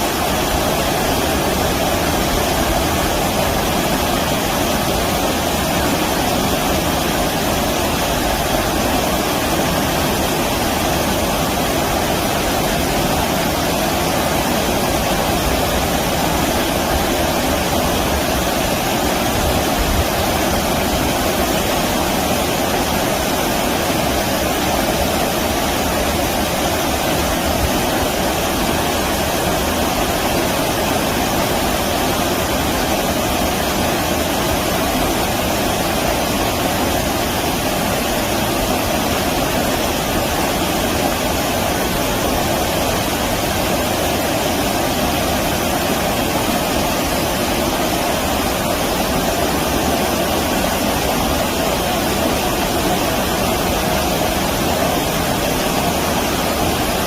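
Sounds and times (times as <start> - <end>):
stream water rushing over shallows: 0.0 - 57.0.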